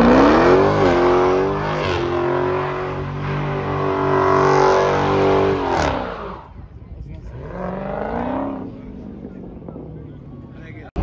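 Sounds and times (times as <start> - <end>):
car engine at high revs: 0.0 - 10.8.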